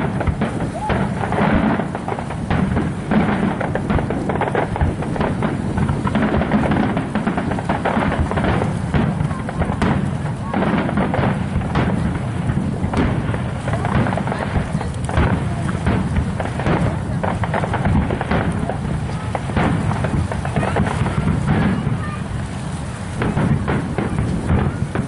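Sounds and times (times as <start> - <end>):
continuous low rumble: 0.0 - 25.0
fireworks booms and crackles: 0.0 - 25.0.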